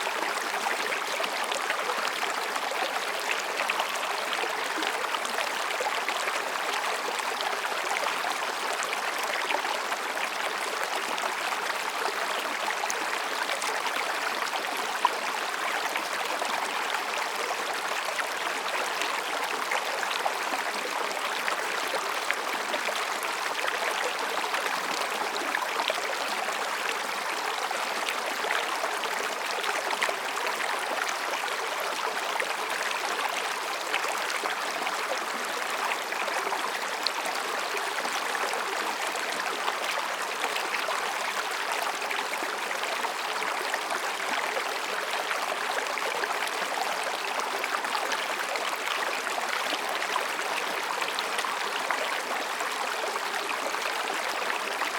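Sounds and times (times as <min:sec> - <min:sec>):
stream babbling over rocks: 0:00.0 - 0:54.9.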